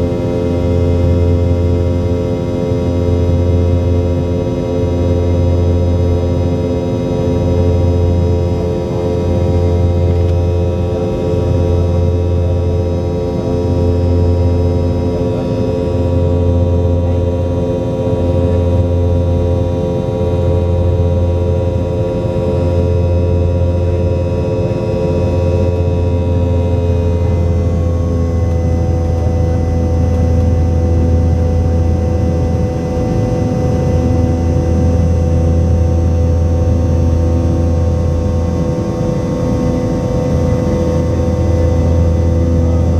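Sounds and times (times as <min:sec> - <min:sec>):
jet engine drone and whine: 0:00.0 - 0:42.9.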